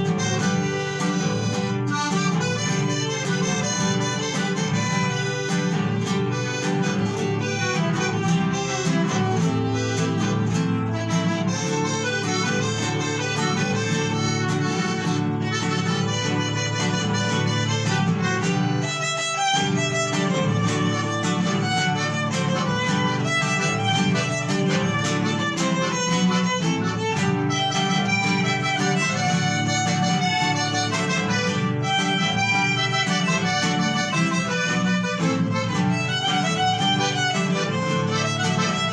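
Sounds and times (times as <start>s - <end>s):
strummed guitars: 0.0s - 38.9s
violins playing: 0.0s - 38.9s.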